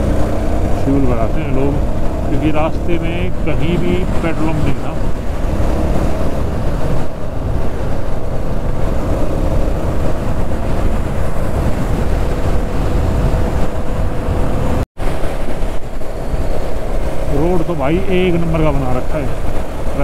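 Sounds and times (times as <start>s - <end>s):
motorcycle engine running: 0.0s - 20.0s
road rumble: 0.0s - 20.0s
wind: 0.0s - 20.0s.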